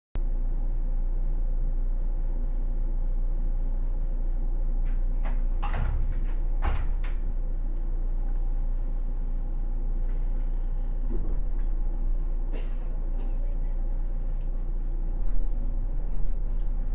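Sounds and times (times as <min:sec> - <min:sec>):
train interior rumble and hum: 0:00.2 - 0:16.9.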